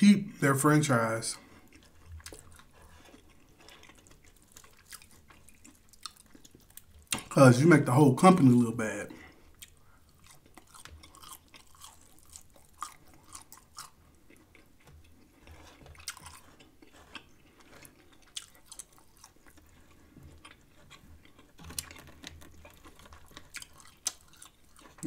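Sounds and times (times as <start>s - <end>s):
chewing with wet mouth clicks: 1.4s - 7.4s, 9.4s - 25.0s.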